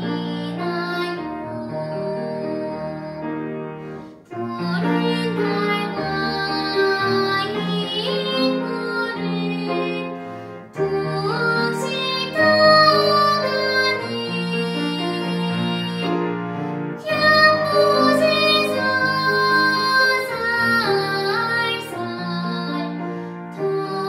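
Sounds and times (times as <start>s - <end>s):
girl singing classical style: 0.0s - 24.0s
grand piano accompaniment: 0.0s - 24.0s.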